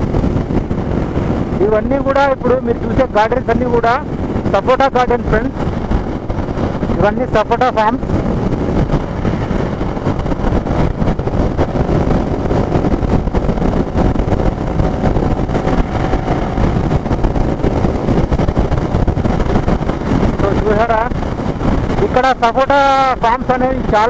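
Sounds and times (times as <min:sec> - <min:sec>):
motorcycle engine hum: 0:00.0 - 0:24.0
wind buffeting microphone: 0:00.0 - 0:24.0.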